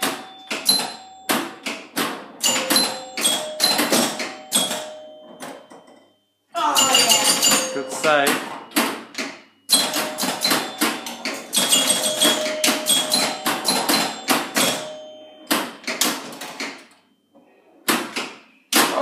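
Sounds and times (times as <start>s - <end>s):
pinball machine clacks: 0.0s - 6.1s, 6.8s - 17.0s, 17.9s - 19.0s
pinball bell tones: 0.0s - 17.4s.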